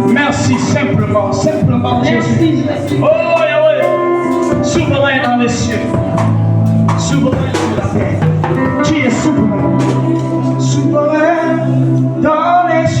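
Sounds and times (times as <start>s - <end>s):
music with singing: 0.0s - 13.0s.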